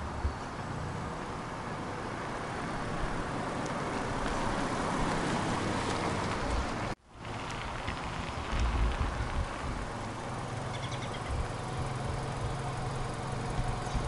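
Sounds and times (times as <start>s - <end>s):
car driving slowly past: 0.0s - 14.0s.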